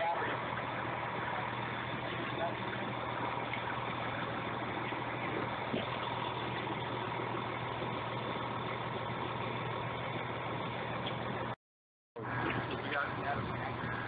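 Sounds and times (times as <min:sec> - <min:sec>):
fire engine idling: 0:00.0 - 0:11.6, 0:12.2 - 0:14.0.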